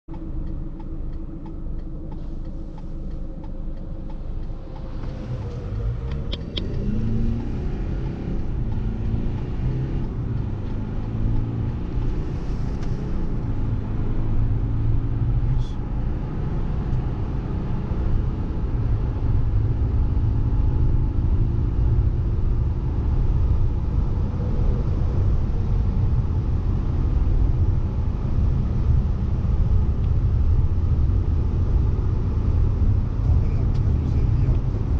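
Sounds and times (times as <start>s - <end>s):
car engine accelerating: 0.1s - 34.9s.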